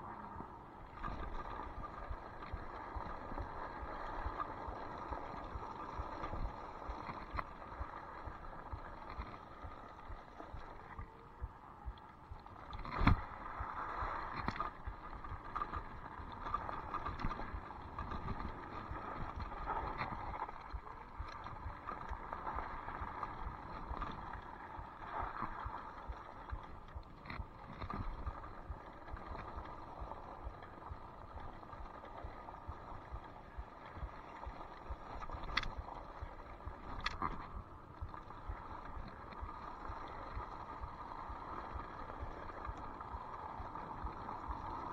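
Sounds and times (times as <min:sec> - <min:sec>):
scooter tyres on trail: 0:00.0 - 0:44.9.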